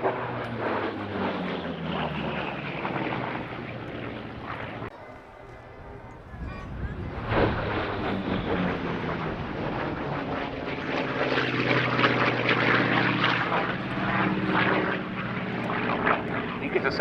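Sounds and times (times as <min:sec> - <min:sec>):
propeller plane flying by: 0:00.0 - 0:17.0.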